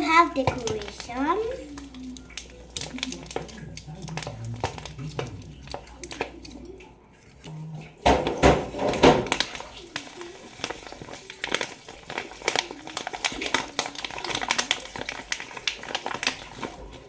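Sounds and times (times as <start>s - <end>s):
crinkly packaging rustling: 0.0s - 17.0s.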